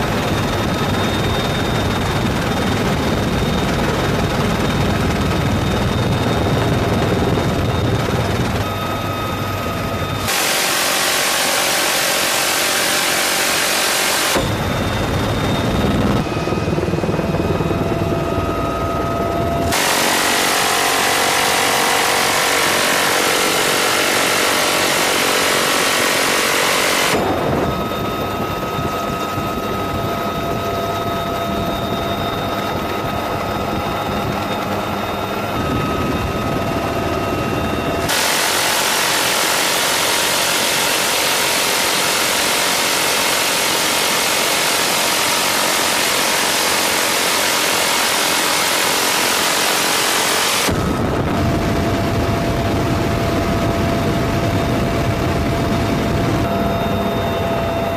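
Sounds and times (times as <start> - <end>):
helicopter engine and rotor whine: 0.0 - 57.9.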